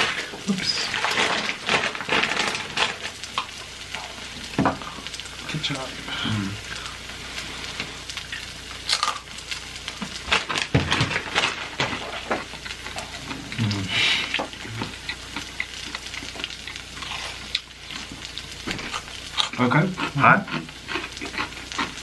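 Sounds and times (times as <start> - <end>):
crunching and chewing chips: 0.0 - 7.0, 8.0 - 22.0.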